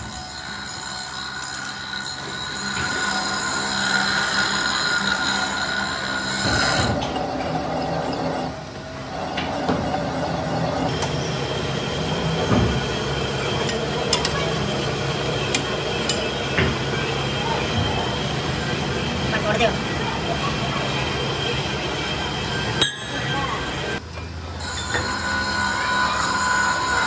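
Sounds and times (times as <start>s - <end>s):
lathe tool squealing: 0.0s - 24.0s, 24.6s - 27.0s
lathe humming and rattling: 0.0s - 27.0s.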